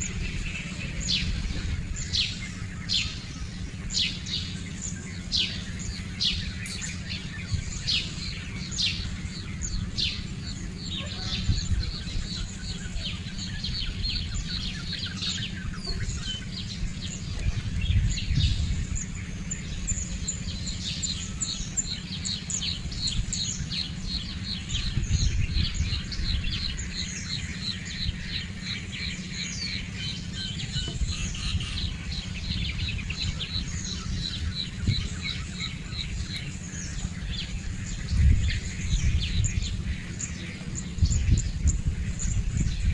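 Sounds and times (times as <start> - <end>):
birds chirping: 0.0 - 42.9
steady low rumble: 0.0 - 42.9.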